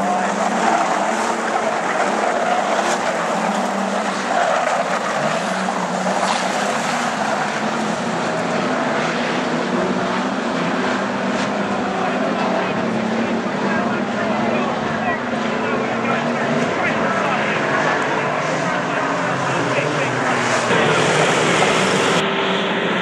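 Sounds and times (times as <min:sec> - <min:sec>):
racing car engines: 0:00.0 - 0:23.0.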